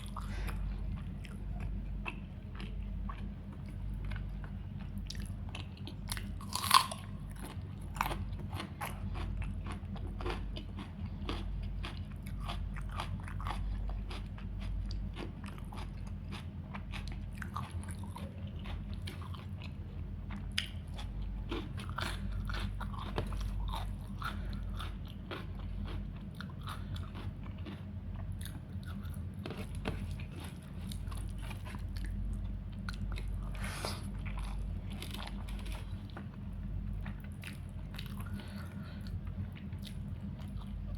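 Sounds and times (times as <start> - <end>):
chewing and crunching food: 0.0 - 40.9
steady low hum: 0.0 - 40.9.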